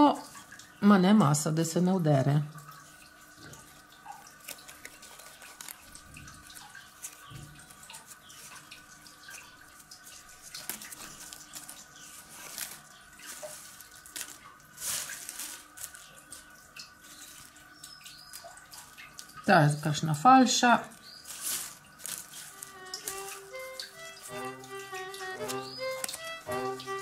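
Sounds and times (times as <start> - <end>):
leaves rustling and clicking: 3.4 - 20.0, 20.6 - 27.0.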